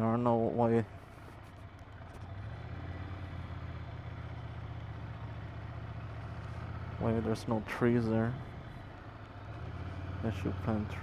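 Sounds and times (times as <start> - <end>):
motorcycle engine idling: 0.9 - 11.0.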